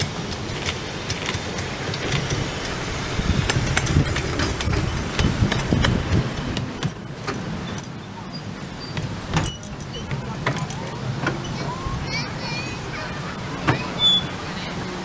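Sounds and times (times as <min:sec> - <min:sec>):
clicks and knocks of wheels: 0:00.0 - 0:15.0
train wheels rumbling on rails: 0:00.0 - 0:15.0.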